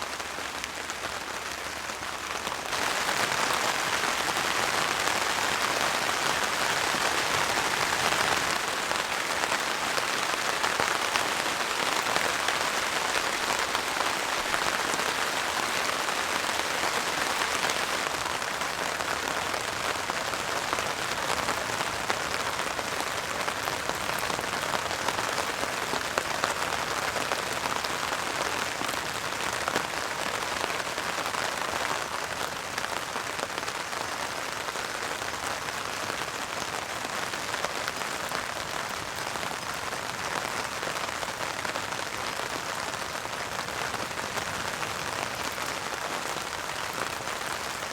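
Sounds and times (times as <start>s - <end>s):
heavy rain on a tarp: 0.0s - 47.9s.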